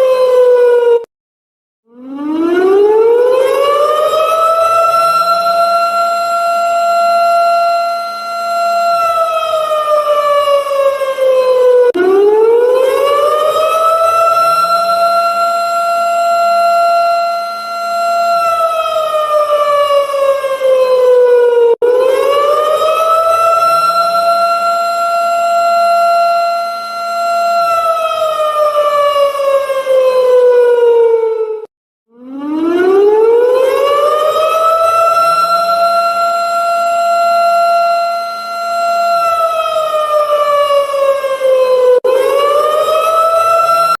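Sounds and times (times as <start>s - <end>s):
alarm siren wailing: 0.0s - 1.1s, 1.8s - 44.0s.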